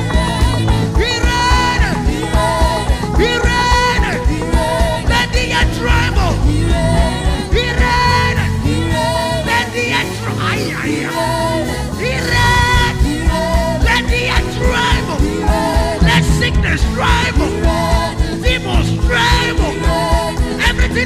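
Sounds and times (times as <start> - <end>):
drum and bass groove: 0.0 - 9.0, 12.6 - 21.0
person singing: 0.0 - 21.0.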